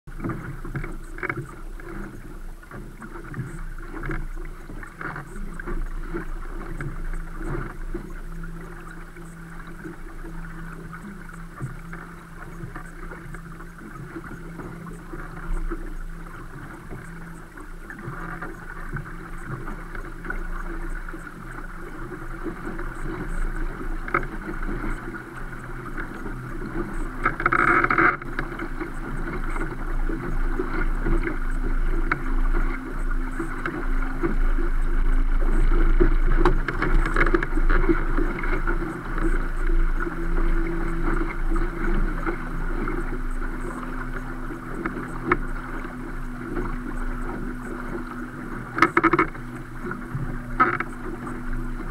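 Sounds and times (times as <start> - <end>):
water rushing along a hull: 0.1 - 51.9.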